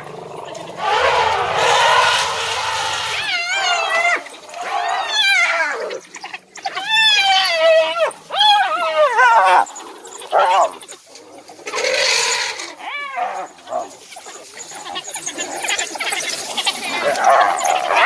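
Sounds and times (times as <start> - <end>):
wild dogs and hyena squealing: 0.0 - 18.0.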